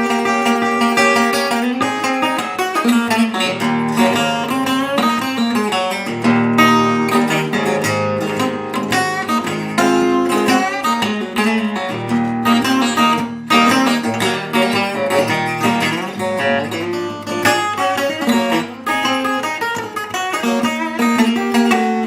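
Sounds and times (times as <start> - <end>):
guitar quick picked notes: 0.0 - 22.0
strummed guitar chords: 0.0 - 22.0.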